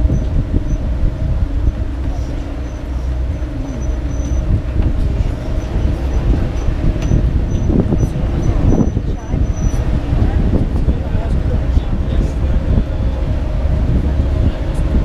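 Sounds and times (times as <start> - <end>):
tram rumbling with engine hum: 0.0 - 15.0.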